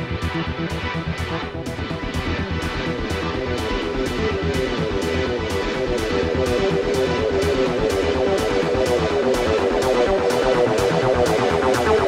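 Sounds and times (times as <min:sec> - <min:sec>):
guitar music with steady beat: 0:00.0 - 0:12.0.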